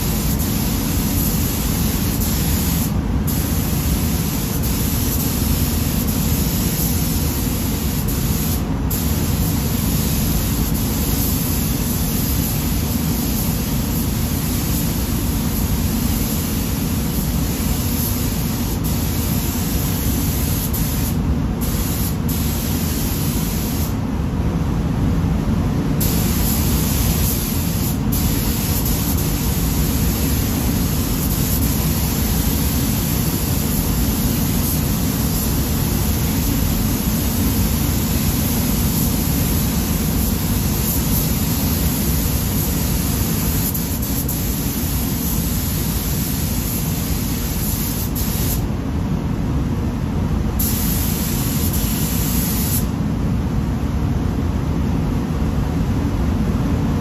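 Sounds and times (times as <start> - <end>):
paint spray gun hissing: 0.0 - 24.0, 26.0 - 48.6, 50.6 - 52.9
paint booth air noise: 0.0 - 57.0.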